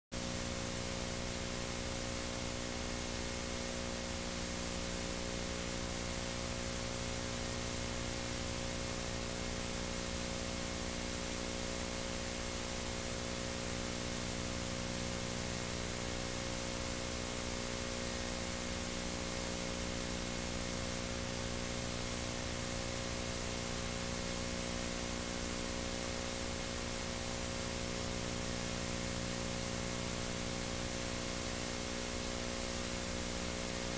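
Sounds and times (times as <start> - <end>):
buzzing mains hum: 0.2 - 33.9.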